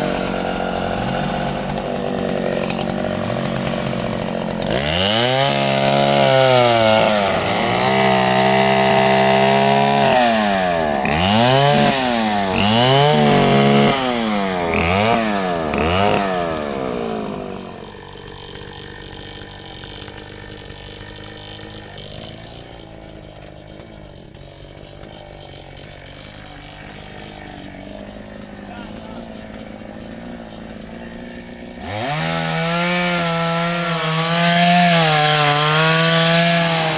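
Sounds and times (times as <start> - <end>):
chainsaw engine revving and idling: 0.0 - 36.9.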